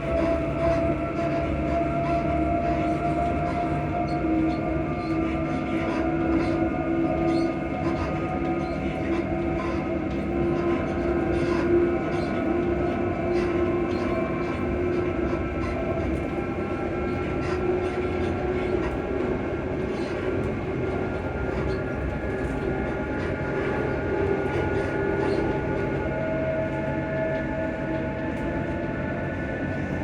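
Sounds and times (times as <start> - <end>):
train traction motors humming: 0.0 - 30.0
train wheels rumbling on track: 0.0 - 30.0.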